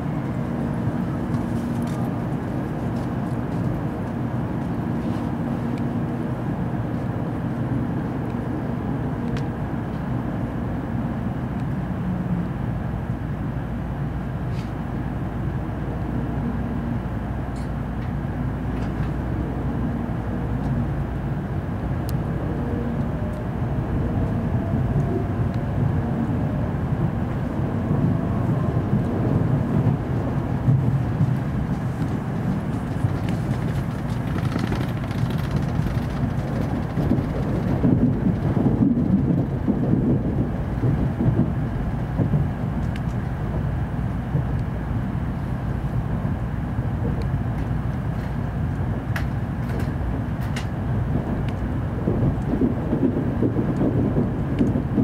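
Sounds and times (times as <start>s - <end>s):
train running gear rumble: 0.0s - 55.0s.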